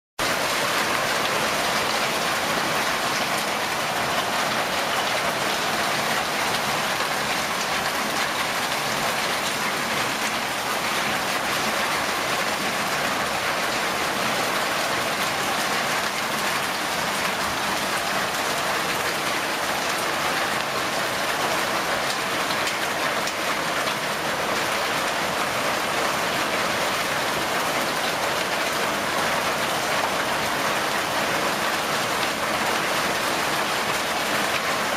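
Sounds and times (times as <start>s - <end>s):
hail and heavy rain pelting: 0.2s - 34.9s.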